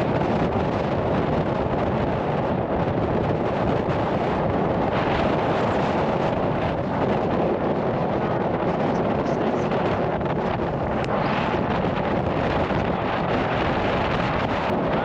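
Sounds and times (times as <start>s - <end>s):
wind noise on microphone: 0.0s - 15.0s.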